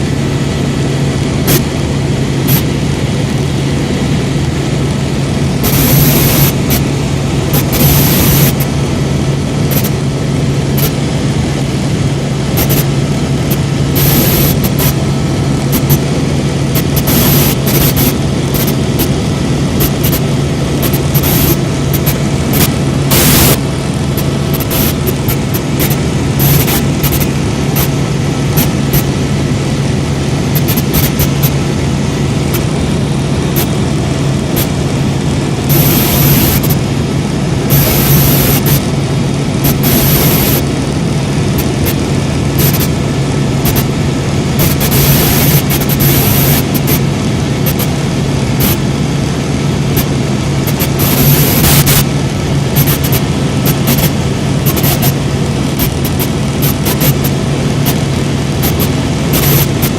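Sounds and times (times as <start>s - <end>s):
helicopter turbine and rotor drone: 0.0s - 59.9s.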